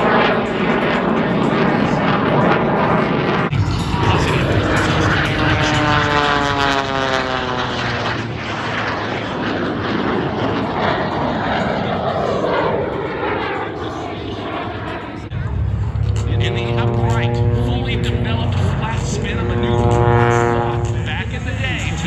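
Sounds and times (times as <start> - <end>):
airplane flying past: 0.0 - 22.0.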